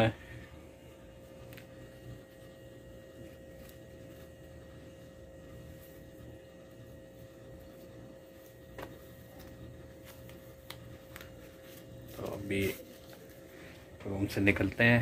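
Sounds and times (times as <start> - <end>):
air conditioner hum: 0.0 - 15.0.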